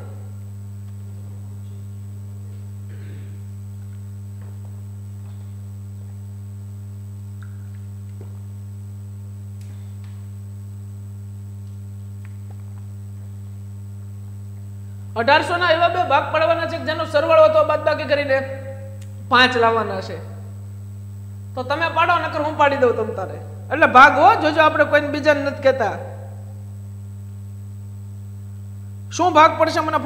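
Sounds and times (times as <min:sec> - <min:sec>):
faint higher hum: 0:00.0 - 0:30.0
low electrical mains hum: 0:00.0 - 0:30.0.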